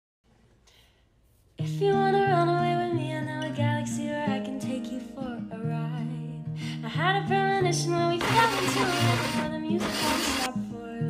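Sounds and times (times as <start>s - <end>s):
acoustic guitar background music: 1.3s - 11.0s.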